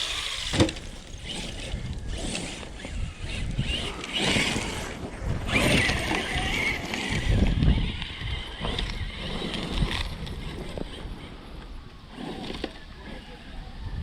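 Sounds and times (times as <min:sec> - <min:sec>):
rc car driving over gravel: 0:00.0 - 0:14.0
wind buffeting microphone: 0:00.0 - 0:14.0.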